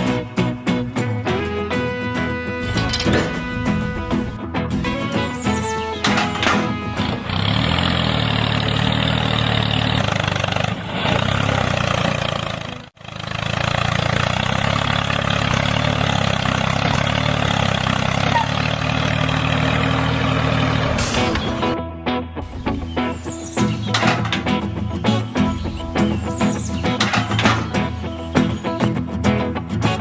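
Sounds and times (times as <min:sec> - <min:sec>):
engine running steadily: 0:02.5 - 0:21.8, 0:22.4 - 0:30.0.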